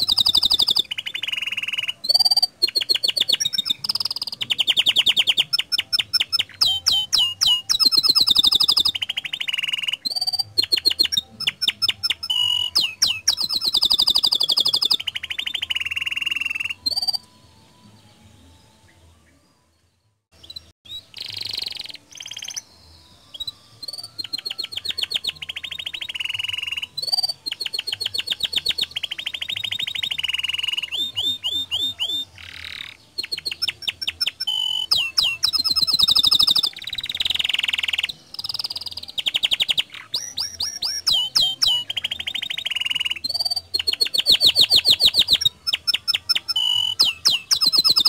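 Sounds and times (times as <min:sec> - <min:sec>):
canary singing trills: 0:00.0 - 0:18.1, 0:18.7 - 0:48.0.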